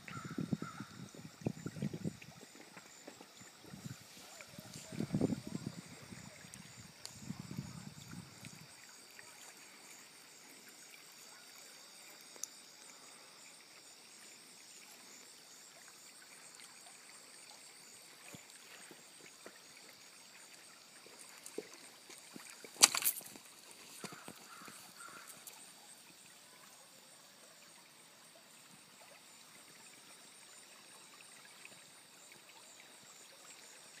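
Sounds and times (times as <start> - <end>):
river water trickling over rocks: 0.0 - 34.0.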